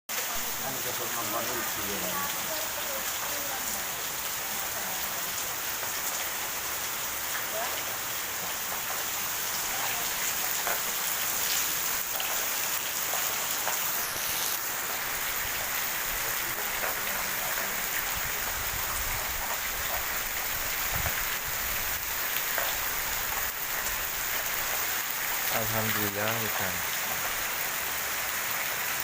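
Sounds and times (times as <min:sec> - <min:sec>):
steady rain falling: 0:00.1 - 0:29.0.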